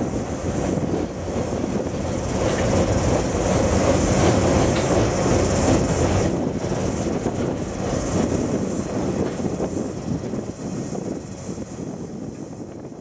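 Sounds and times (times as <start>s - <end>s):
freight train rumble and rattle: 0.0s - 13.0s.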